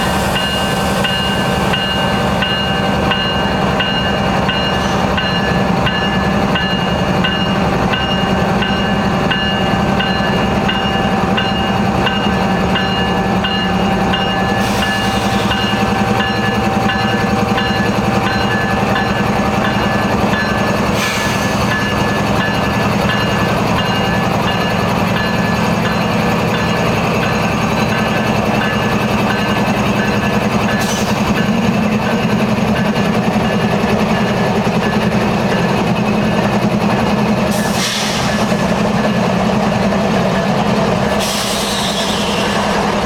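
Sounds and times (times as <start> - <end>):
locomotive engine rumbling: 0.0 - 43.0.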